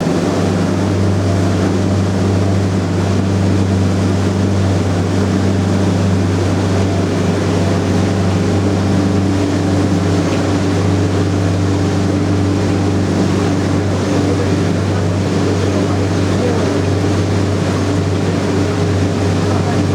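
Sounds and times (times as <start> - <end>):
higher engine tone: 0.0 - 19.9
motorboat engine drone: 0.0 - 19.9
water rushing noise: 0.0 - 19.9.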